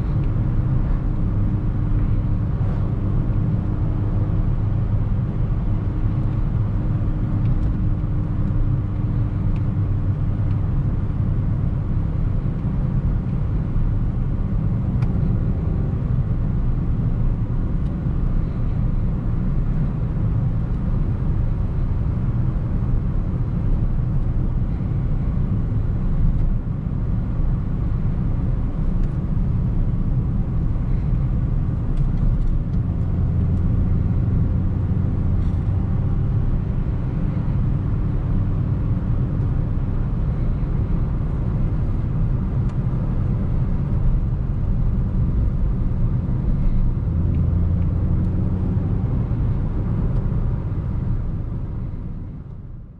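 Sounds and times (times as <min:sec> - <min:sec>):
car engine running: 0:00.0 - 0:52.9
road and tyre rumble: 0:00.0 - 0:52.9.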